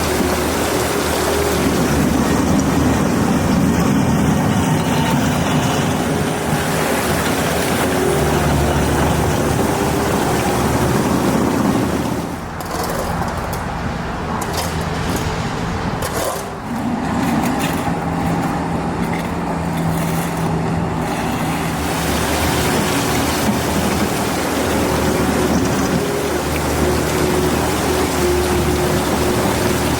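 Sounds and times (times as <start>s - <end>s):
broad rushing noise: 0.0s - 29.9s.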